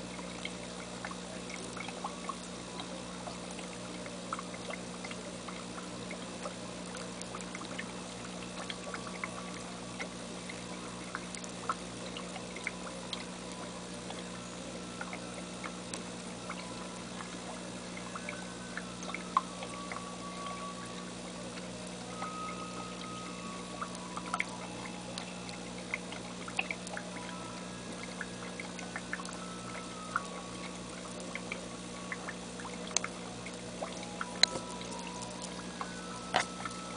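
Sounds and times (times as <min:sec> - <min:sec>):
pump humming: 0:00.0 - 0:36.9
water bubbling and trickling: 0:00.0 - 0:36.9.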